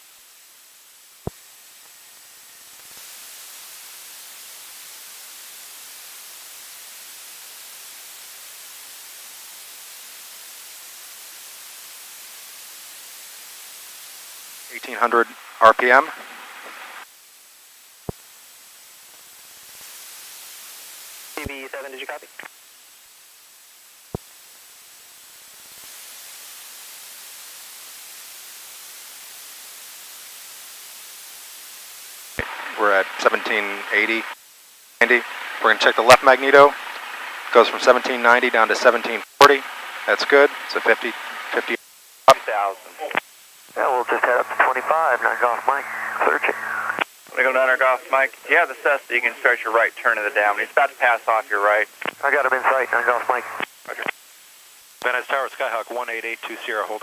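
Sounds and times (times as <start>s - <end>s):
radio static hiss: 0.0s - 57.0s.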